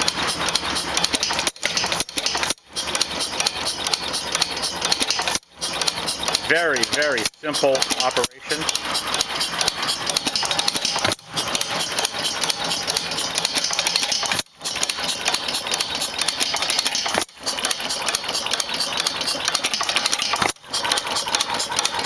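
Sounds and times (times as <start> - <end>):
hit-and-miss engine clattering: 0.0 - 22.0.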